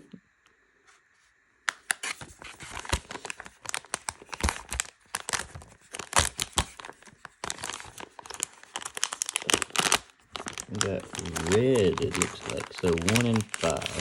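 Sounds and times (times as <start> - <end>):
crackles and sharp clicks: 1.6 - 14.0
packaging crinkling and tearing: 1.8 - 14.0.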